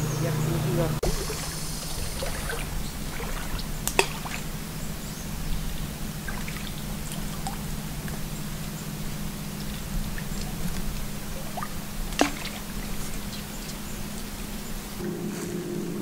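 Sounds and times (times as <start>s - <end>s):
steady low hum: 0.0s - 16.0s
water splashing and dripping: 1.0s - 15.1s.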